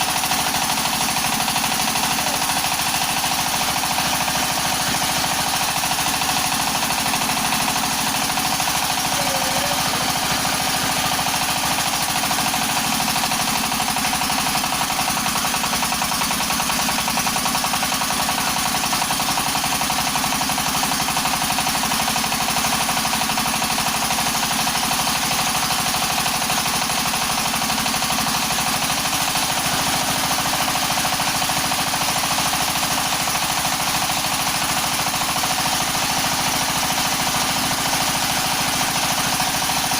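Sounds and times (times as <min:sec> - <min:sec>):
machine clattering: 0:00.0 - 0:39.9.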